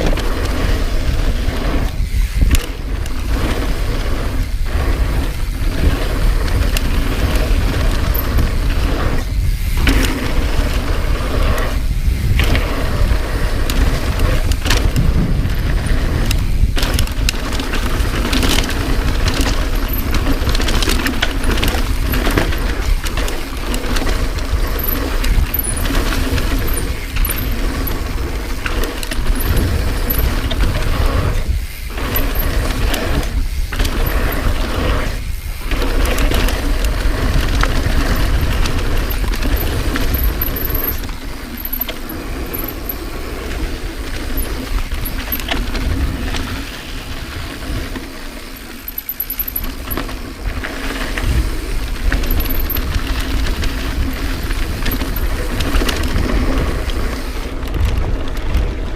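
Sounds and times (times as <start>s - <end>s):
bike chain and frame rattling: 0.0s - 58.9s
bike tyres rolling over dirt: 0.0s - 58.9s
wind buffeting microphone: 0.0s - 58.9s.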